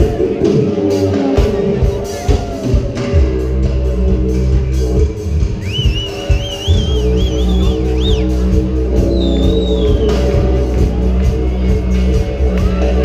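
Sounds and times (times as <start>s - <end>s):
electric guitars: 0.0s - 13.0s
live pop rock band: 0.0s - 13.0s
low bass line: 0.0s - 13.0s.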